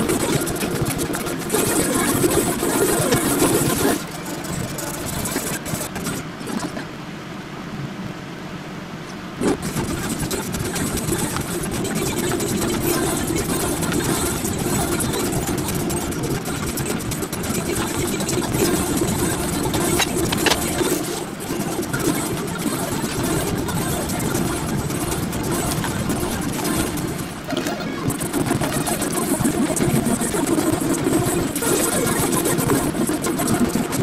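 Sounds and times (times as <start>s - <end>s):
steady mechanical hum: 0.0s - 34.0s.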